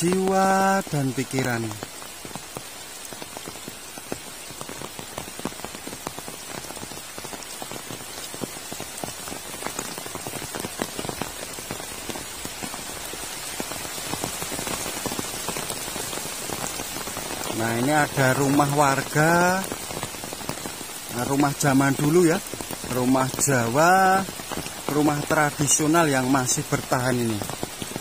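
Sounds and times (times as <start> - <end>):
heavy rain hissing: 0.0 - 28.0
raindrops ticking close by: 0.0 - 28.0.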